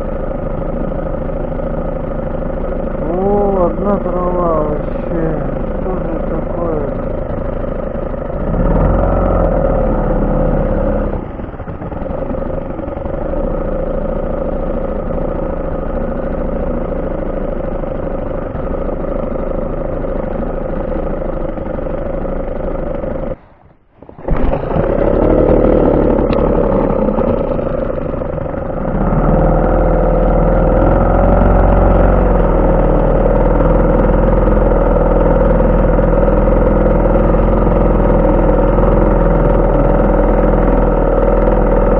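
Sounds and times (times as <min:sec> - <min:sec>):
heavy low rumble: 0:00.0 - 0:41.9
outboard motor running: 0:00.0 - 0:41.9.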